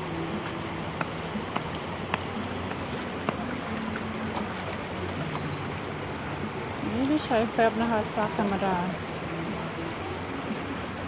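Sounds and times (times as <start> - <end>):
laundry splashing in water: 0.0 - 11.0
river flowing: 0.0 - 11.0.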